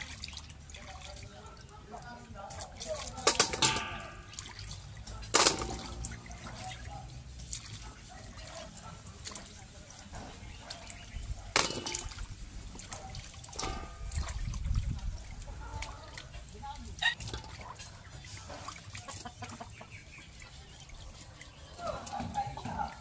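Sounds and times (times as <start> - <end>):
hands sloshing fruit in water: 0.0 - 23.0.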